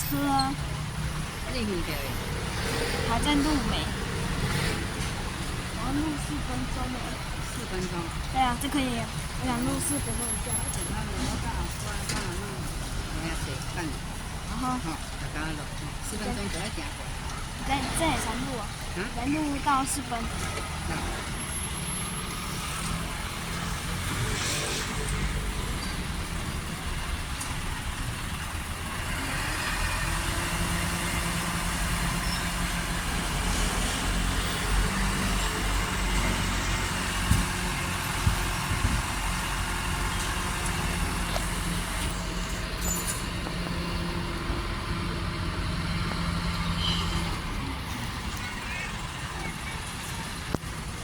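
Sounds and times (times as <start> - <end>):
garbage truck engine running: 0.0 - 51.0.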